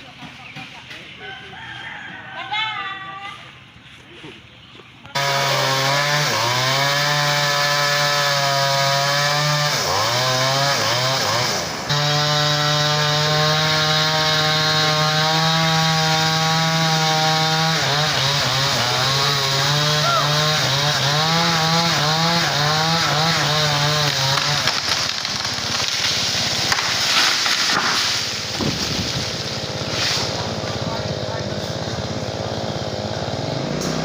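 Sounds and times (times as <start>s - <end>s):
chainsaw cutting branch: 5.2s - 34.0s.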